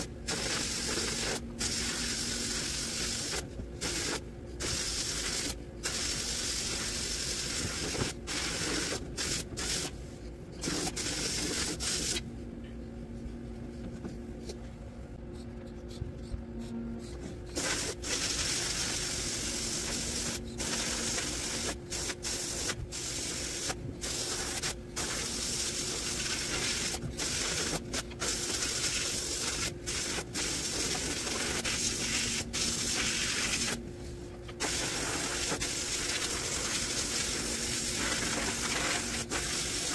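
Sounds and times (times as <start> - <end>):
low steady hum: 0.0 - 39.9
sandblasting gun hissing: 0.3 - 9.9, 10.6 - 12.2, 17.5 - 33.8, 34.6 - 39.9.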